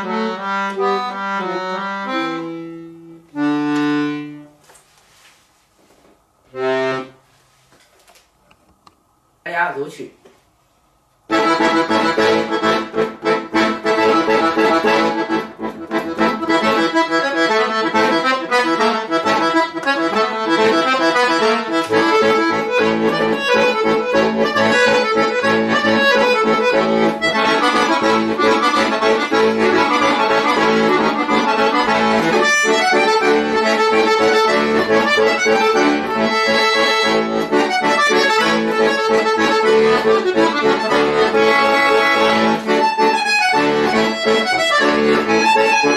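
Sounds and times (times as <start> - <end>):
button accordion playing: 0.0 - 4.7, 6.5 - 7.3, 11.3 - 45.9.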